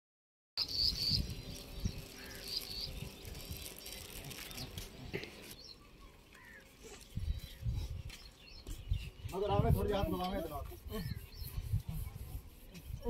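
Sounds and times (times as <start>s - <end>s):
birds chirping: 0.6s - 13.0s.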